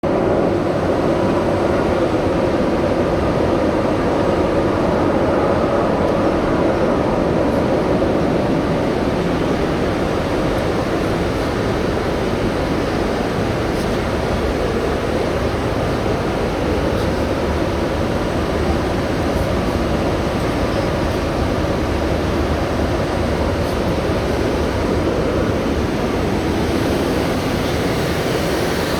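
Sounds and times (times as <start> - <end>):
gas burners roaring: 0.0 - 28.9.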